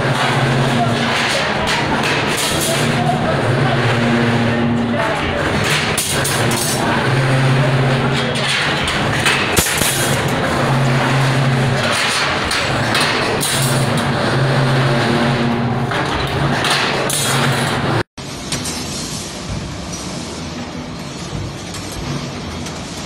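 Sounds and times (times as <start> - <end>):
industrial machinery noise: 0.0 - 23.0.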